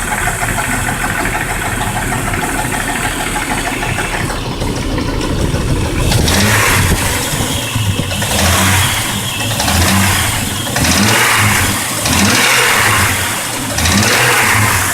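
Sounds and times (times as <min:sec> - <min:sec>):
car engine revving: 0:00.0 - 0:14.9
clacking from engine: 0:00.0 - 0:14.9.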